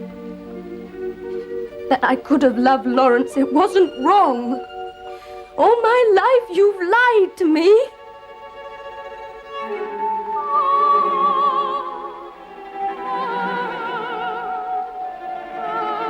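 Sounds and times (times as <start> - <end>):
dramatic orchestral music: 0.0 - 16.0.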